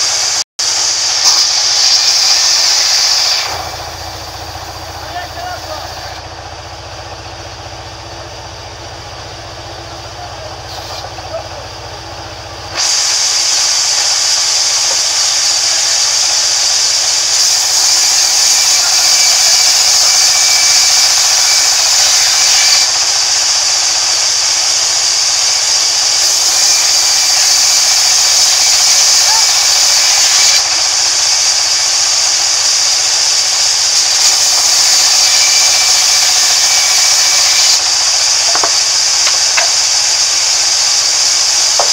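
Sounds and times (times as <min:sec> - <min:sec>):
band saw running: 0:00.0 - 0:41.9
saw blade cutting timber: 0:00.8 - 0:06.3, 0:10.5 - 0:11.7, 0:12.6 - 0:41.9.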